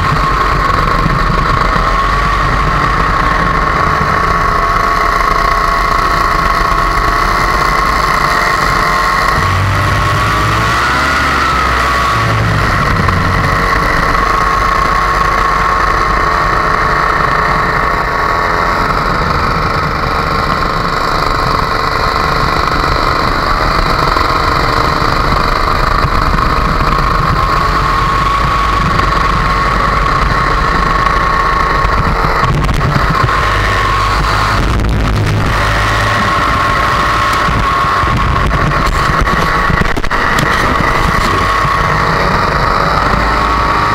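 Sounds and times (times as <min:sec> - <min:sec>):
paramotor engine and propeller: 0:00.0 - 0:43.9.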